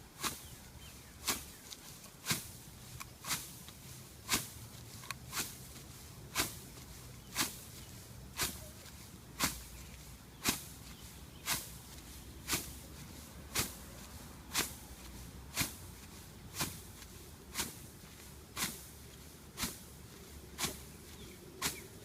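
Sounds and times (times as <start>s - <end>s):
footsteps crunching through stems: 0.0s - 22.0s.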